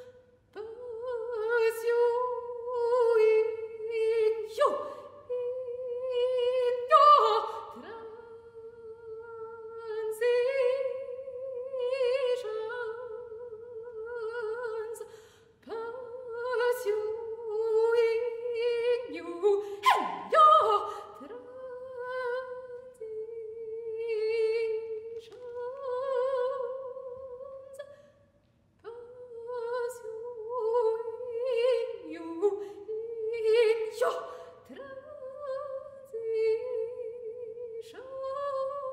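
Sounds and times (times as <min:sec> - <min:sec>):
soprano singing a cappella: 0:00.0 - 0:28.0, 0:28.8 - 0:38.9.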